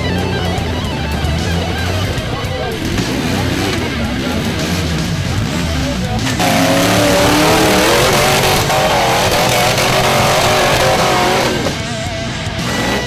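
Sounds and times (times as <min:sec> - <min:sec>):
buggy engine revving: 0:00.0 - 0:13.0
rock music: 0:00.0 - 0:13.0.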